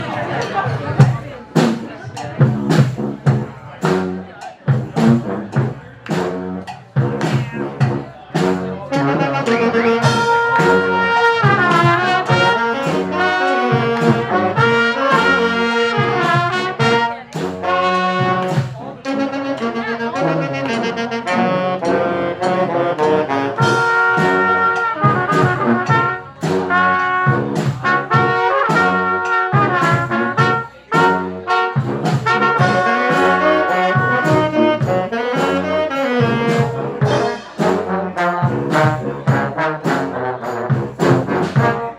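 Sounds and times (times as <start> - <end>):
drums keeping a steady beat: 0.0 - 41.9
trumpets and trombones: 0.0 - 41.9.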